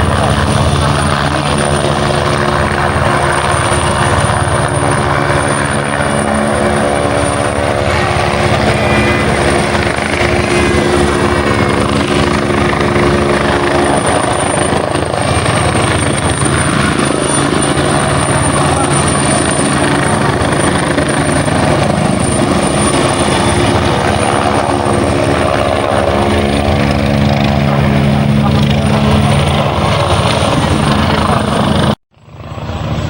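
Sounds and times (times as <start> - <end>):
helicopter hovering: 0.0 - 33.0.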